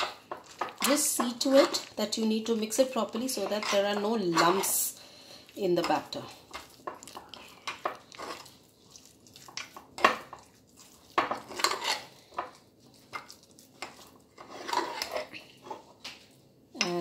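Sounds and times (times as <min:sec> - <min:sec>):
spoon stirring batter in mug: 0:00.0 - 0:16.0.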